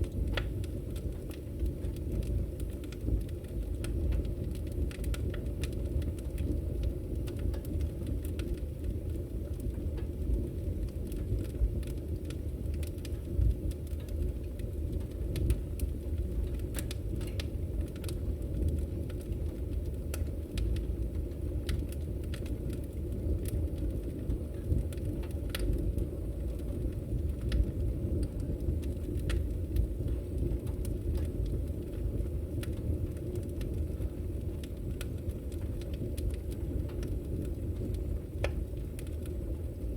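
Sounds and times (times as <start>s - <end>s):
fire crackles and pops: 0.0s - 39.9s
wood fire rumbling: 0.0s - 39.9s.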